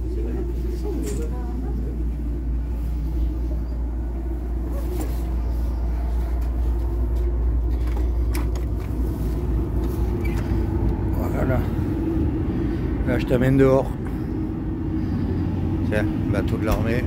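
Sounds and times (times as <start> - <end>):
ship machinery drone: 0.0 - 17.0.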